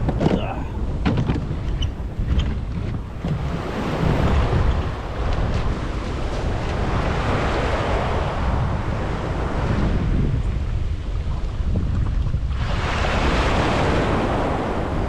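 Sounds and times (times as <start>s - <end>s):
sea water washing: 0.0s - 15.0s
wind buffeting microphone: 0.0s - 15.0s.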